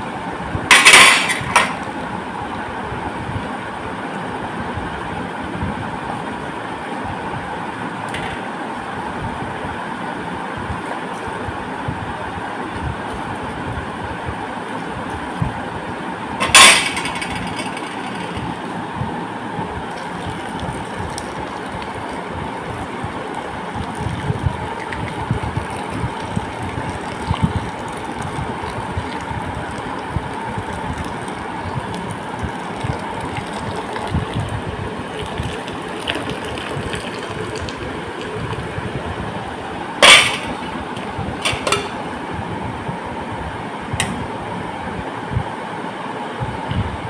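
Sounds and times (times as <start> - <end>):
steady background hum: 0.0 - 47.0.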